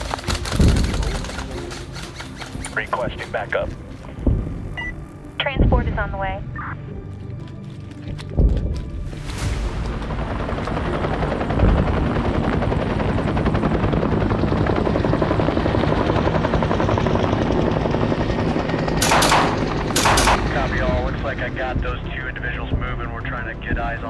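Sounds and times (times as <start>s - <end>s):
helicopter rotor chopping: 0.0s - 5.9s, 9.6s - 24.0s.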